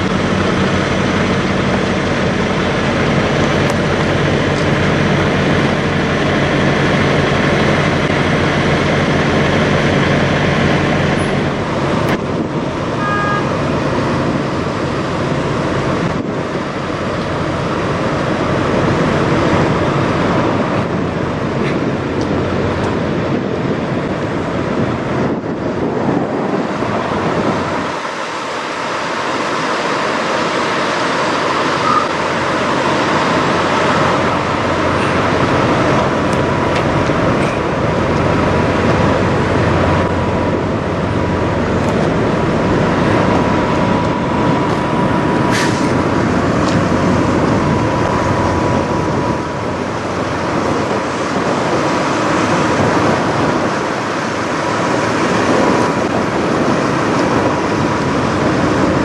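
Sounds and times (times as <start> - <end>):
diesel trucks idling: 0.0 - 59.0.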